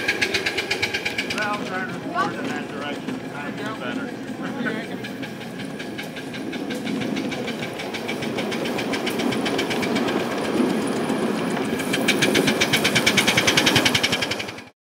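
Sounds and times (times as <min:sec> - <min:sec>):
steam locomotive chuffing: 0:00.0 - 0:14.7
train cars rolling on rails: 0:00.0 - 0:14.7.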